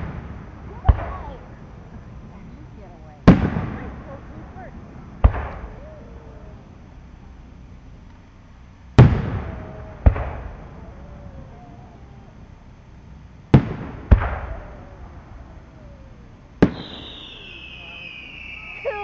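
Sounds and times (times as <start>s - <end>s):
fireworks booming: 0.0s - 19.0s.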